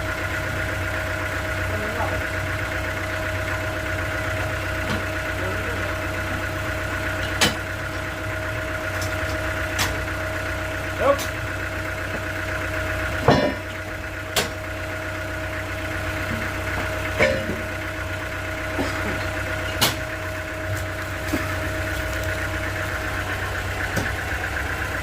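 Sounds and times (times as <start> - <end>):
sawmill machinery humming: 0.0 - 25.0.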